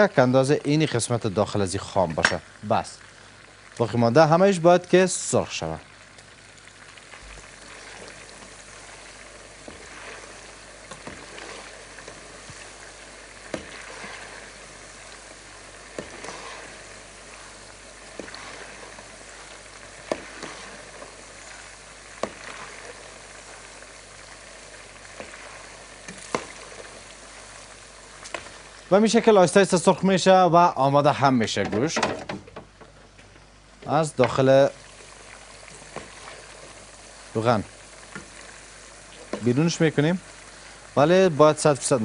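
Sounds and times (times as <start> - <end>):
meat sizzling in hot oil: 0.0 - 32.3, 33.5 - 42.0.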